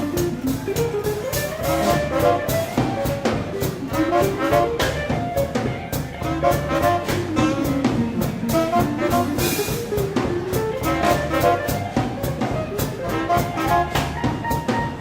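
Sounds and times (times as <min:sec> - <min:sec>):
swing band playing: 0:00.0 - 0:15.0.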